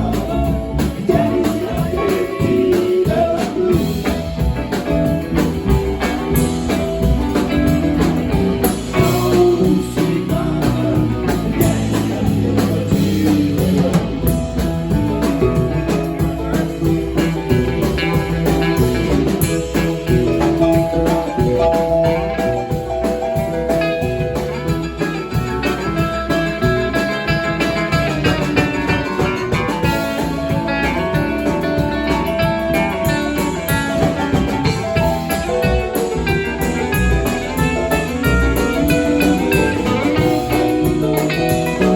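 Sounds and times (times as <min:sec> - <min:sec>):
drum kit: 0:00.0 - 0:41.9
live band playing: 0:00.0 - 0:41.9.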